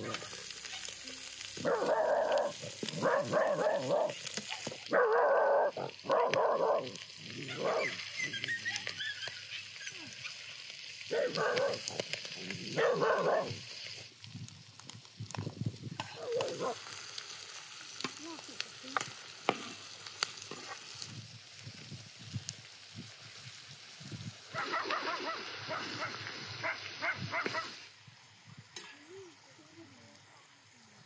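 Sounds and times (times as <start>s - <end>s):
meat sizzling in pan: 0.0s - 31.0s.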